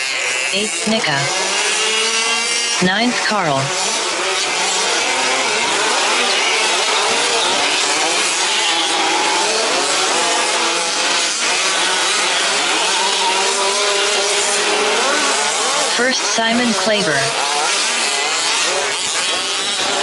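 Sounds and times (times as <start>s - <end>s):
small two-stroke engines buzzing: 0.0s - 20.0s.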